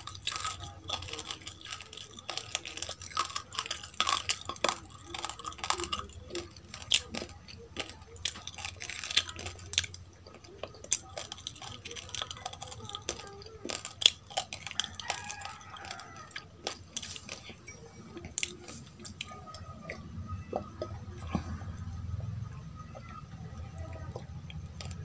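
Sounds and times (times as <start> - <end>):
crisp chewing crunches: 0.0 - 25.0.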